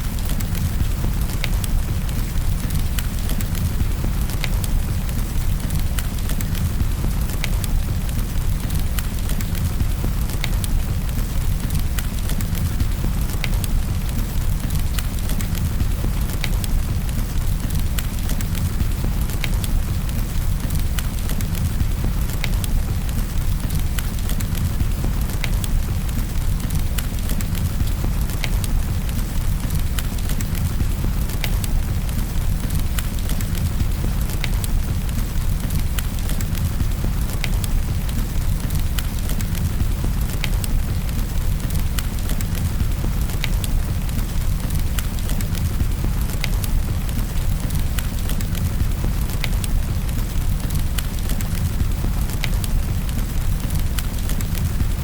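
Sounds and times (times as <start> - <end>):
rain: 0.0 - 55.0
wood fire crackling: 0.0 - 55.0.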